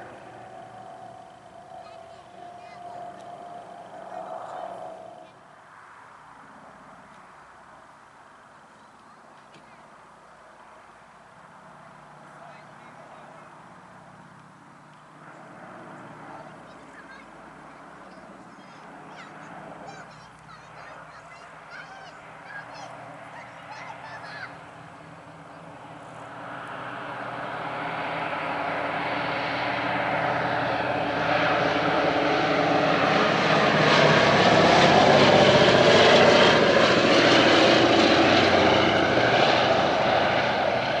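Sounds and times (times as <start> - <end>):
propeller plane engines droning: 0.0 - 41.0.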